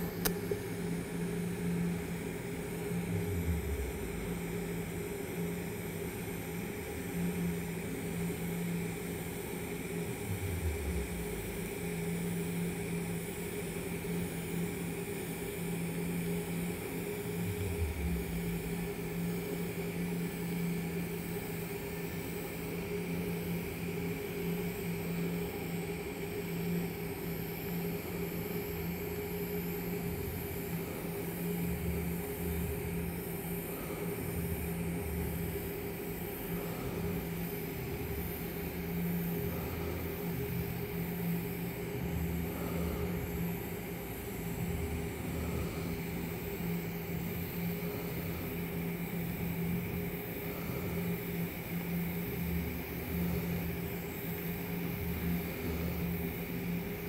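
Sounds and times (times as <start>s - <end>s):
welding arc hum with hiss: 0.0s - 57.0s.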